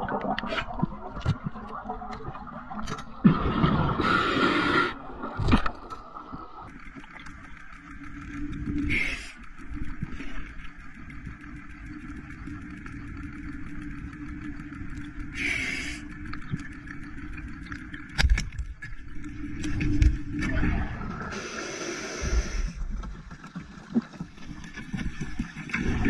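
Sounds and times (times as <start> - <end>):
low underwater engine hum: 0.0 - 26.0.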